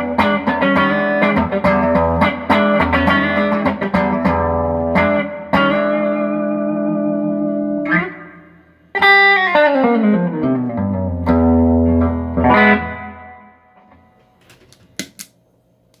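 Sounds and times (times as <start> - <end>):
electric guitar chords: 0.0 - 14.2.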